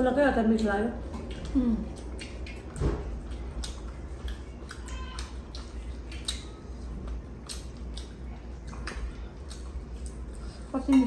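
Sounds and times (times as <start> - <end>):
steady low hum: 0.0 - 11.0
wet chewing and lip-smacking: 0.5 - 11.0.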